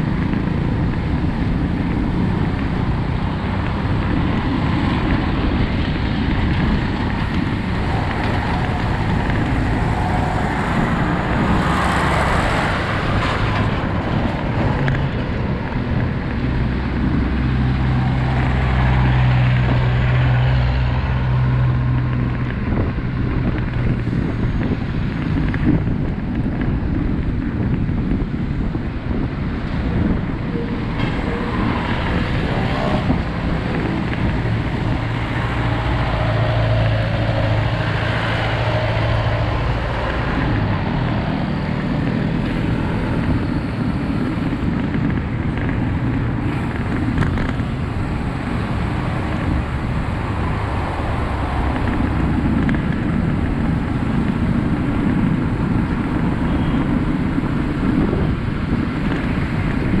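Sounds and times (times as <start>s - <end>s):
traffic engines humming: 0.0s - 60.0s
vehicle low engine hum: 0.0s - 60.0s
wind rush on microphone: 0.0s - 60.0s.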